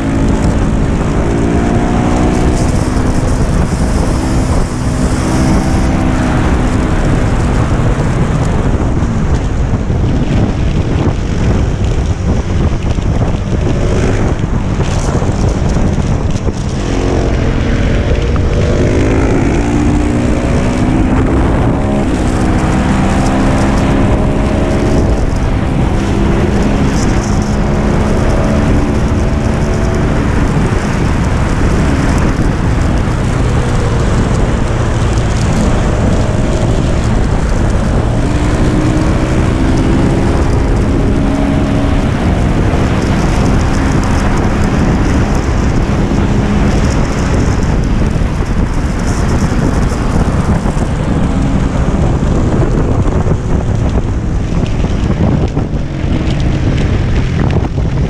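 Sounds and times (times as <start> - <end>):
motorcycle engine revving: 0.0 - 58.0
wind noise on microphone: 0.0 - 58.0.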